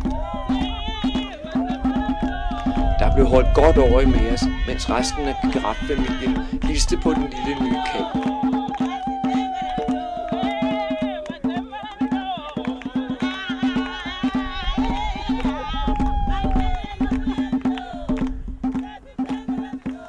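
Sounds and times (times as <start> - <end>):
hand percussion: 0.0 - 20.0.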